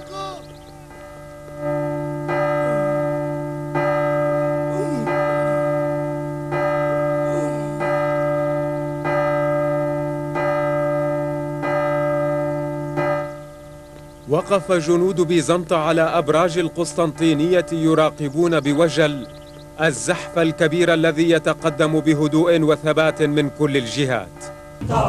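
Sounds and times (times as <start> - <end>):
large bell tolling: 0.0 - 25.0.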